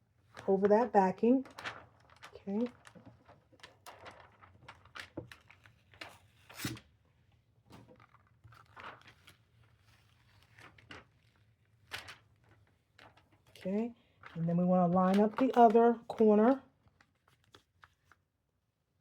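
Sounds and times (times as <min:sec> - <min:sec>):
tape rustling and crinkling: 0:00.2 - 0:07.0, 0:07.7 - 0:18.2.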